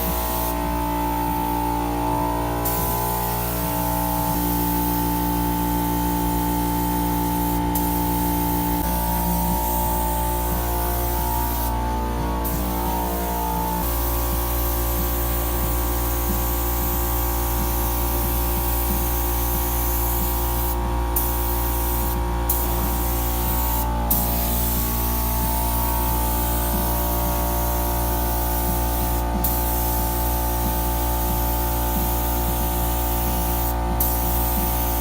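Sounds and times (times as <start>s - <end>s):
spray gun hissing: 0.0s - 35.0s.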